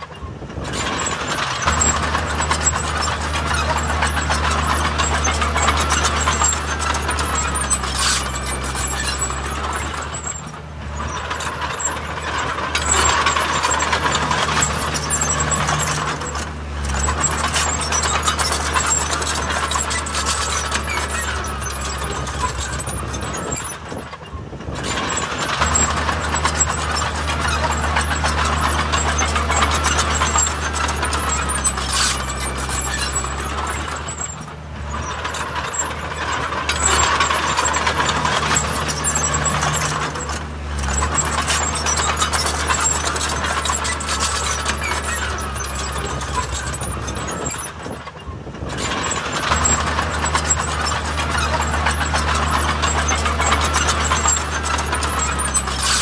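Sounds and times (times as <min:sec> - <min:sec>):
diesel machinery engine drone: 0:00.0 - 0:56.0
metallic clatter: 0:00.6 - 0:56.0.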